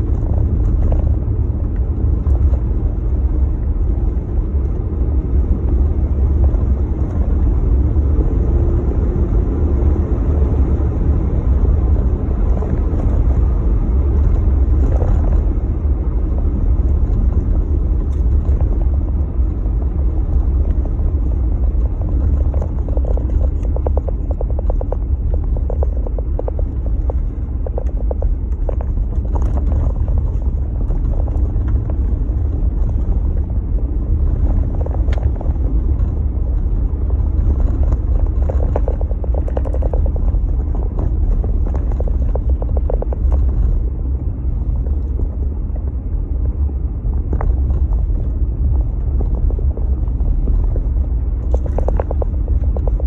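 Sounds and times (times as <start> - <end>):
vehicle rumble in motion: 0.0 - 53.0
wind noise on microphone: 0.0 - 53.0.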